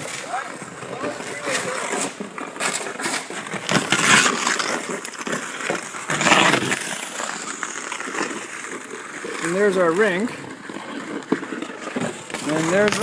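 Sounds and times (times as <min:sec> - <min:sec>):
ice skate blades scraping ice: 0:00.0 - 0:13.0.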